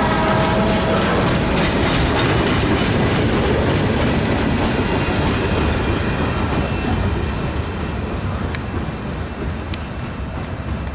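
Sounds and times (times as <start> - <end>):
train wheels rolling over rails: 0.0 - 10.9.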